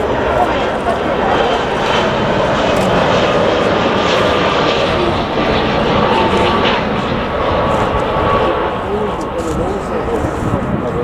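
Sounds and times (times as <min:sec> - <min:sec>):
faint engine whine: 0:00.0 - 0:11.0
jet engines running: 0:00.0 - 0:11.0.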